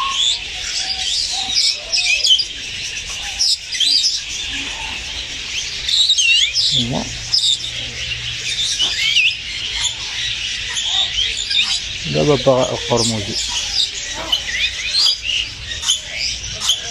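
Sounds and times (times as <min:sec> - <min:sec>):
birds chirping and calling: 0:00.0 - 0:16.9.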